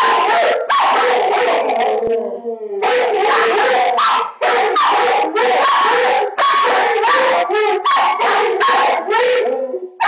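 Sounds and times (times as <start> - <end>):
dog barking rapidly: 0.0 - 1.7, 2.8 - 9.4.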